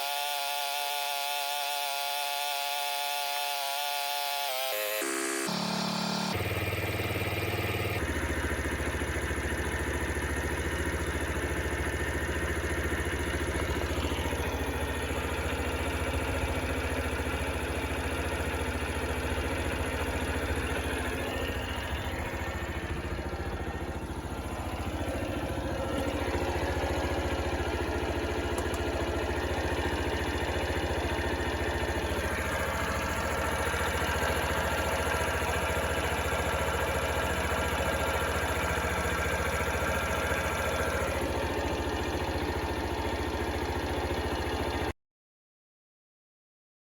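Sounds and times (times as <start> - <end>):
small motorcycle engine idling: 0.0 - 45.0.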